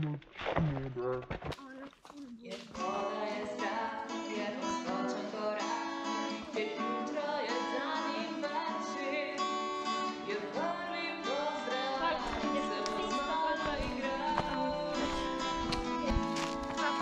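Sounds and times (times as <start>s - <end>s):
acoustic guitar: 0.0s - 17.0s
person singing: 2.4s - 17.0s.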